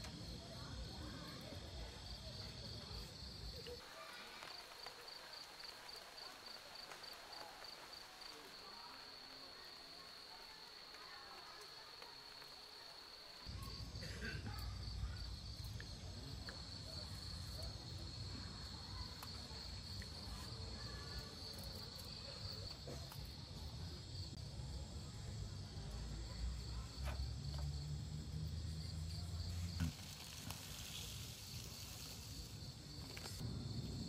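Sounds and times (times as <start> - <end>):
night insects chirring: 0.2 - 34.0.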